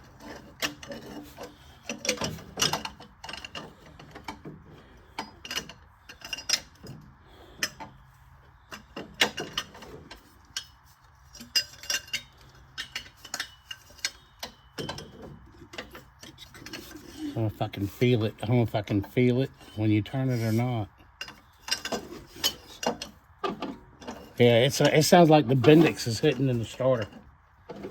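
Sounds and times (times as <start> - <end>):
metallic clicks and clanks: 0.0 - 27.9.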